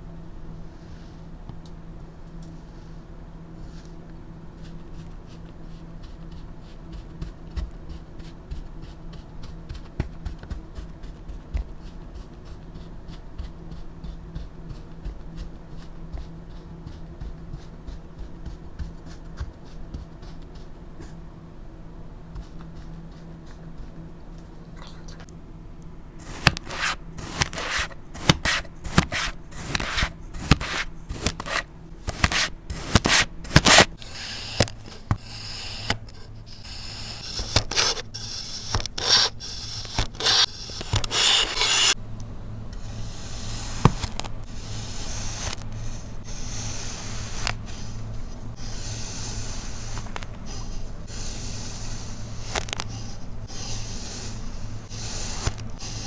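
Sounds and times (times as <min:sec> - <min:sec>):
blade cutting kinetic sand: 0:04.6 - 0:21.2, 0:26.2 - 0:42.0, 0:42.7 - 0:56.0.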